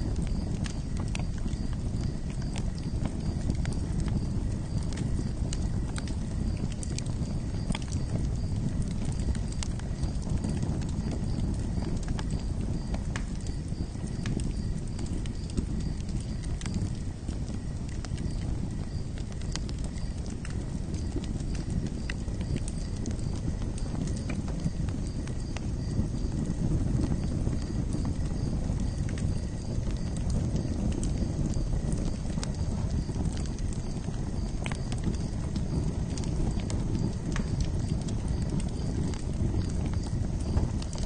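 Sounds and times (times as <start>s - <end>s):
campfire crackling: 0.0s - 41.0s.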